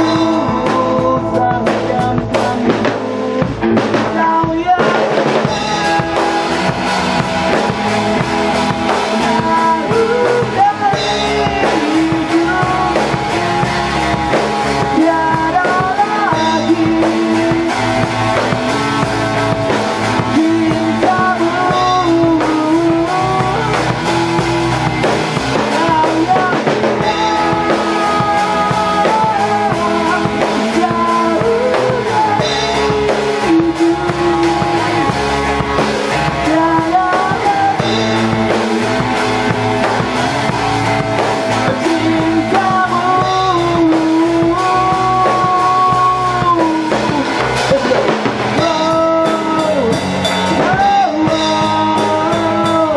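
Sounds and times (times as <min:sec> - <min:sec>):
bending melody line: 0:00.0 - 0:52.9
rock band playing: 0:00.0 - 0:52.9.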